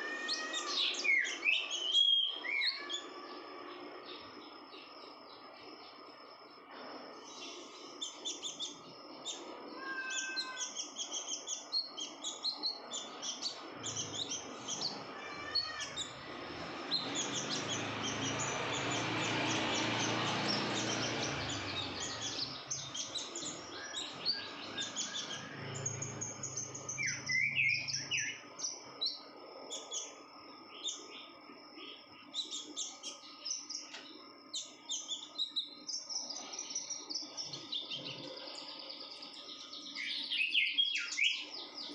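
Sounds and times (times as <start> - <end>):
sunbird chirping: 0.0 - 41.9.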